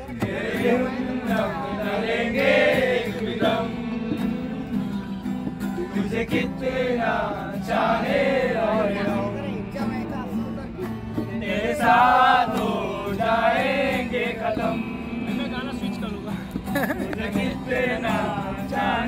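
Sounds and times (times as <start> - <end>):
voices singing: 0.0 - 19.0.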